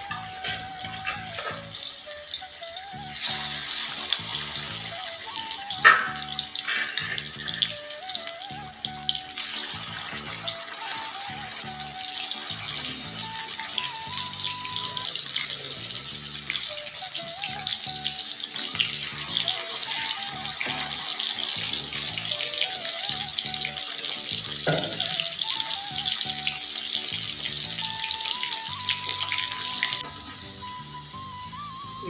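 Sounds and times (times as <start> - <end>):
fish deep-frying in hot oil: 0.0 - 32.0.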